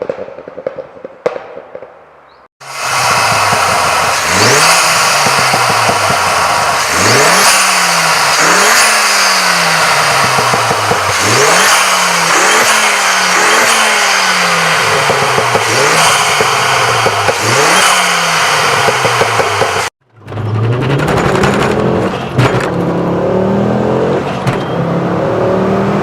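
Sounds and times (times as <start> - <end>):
exhaust pops and crackles: 0.0 - 2.1, 2.7 - 23.0
car engine revving: 2.6 - 26.0.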